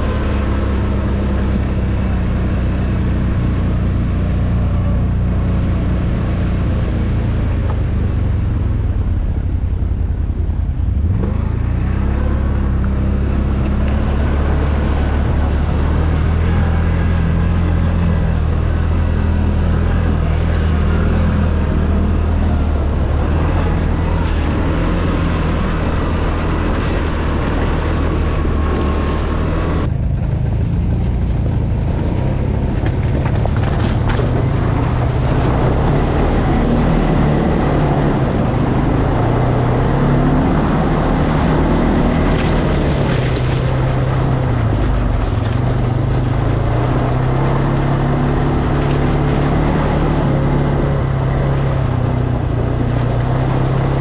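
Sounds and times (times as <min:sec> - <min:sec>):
atv engine revving: 0:00.0 - 0:54.0
wind and terrain noise: 0:00.0 - 0:54.0.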